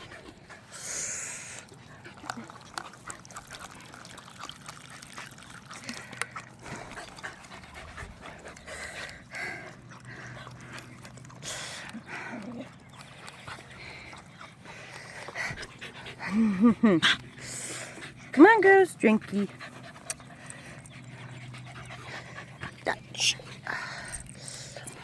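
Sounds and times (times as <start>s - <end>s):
dogs panting: 0.0s - 25.0s.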